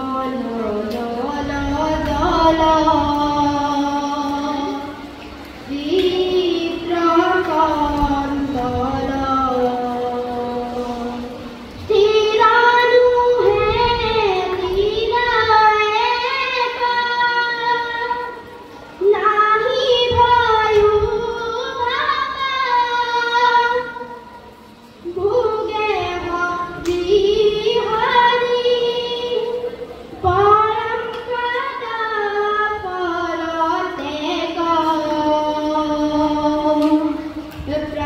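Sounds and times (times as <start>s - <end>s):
boy singing into a microphone: 0.0s - 24.4s, 25.0s - 38.0s.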